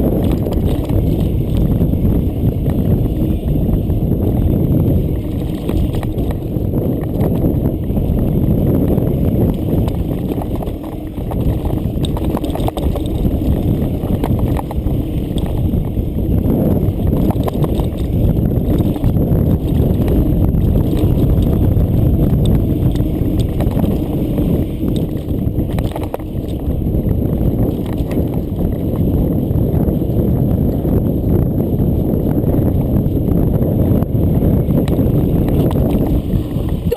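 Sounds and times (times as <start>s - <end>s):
bike knocks and rattles on rocks: 0.0s - 30.9s
bike rumbling over rocks: 0.0s - 36.9s.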